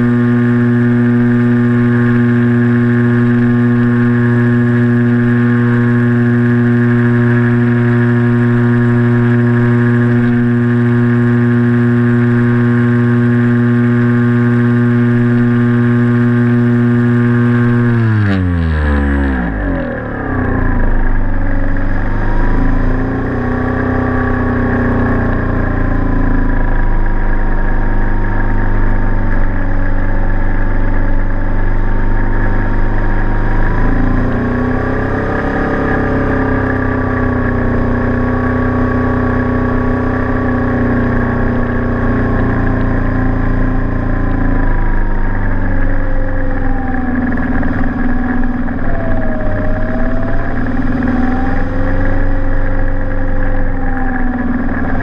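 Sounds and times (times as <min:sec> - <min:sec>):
model aircraft motor buzzing: 0:00.0 - 0:55.0.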